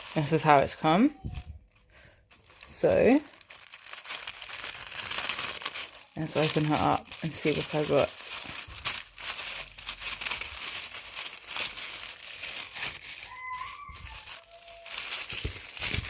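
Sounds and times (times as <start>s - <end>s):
wrapping paper crinkling: 0.0s - 16.0s.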